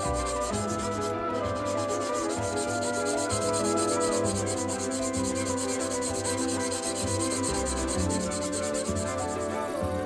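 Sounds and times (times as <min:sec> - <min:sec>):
abrasive pad scrubbing knife blade: 0:00.0 - 0:10.0
background music: 0:00.0 - 0:10.0.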